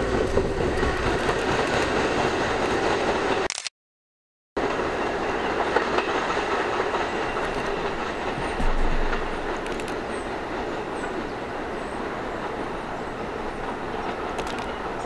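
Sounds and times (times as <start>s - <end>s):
subway train running on rails: 0.0s - 3.5s, 4.6s - 15.0s.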